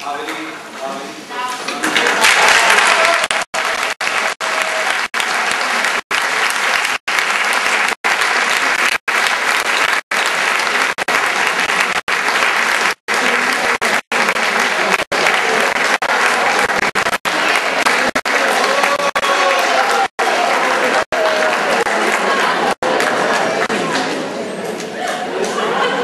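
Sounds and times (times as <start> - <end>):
audience applauding: 2.0 - 24.2.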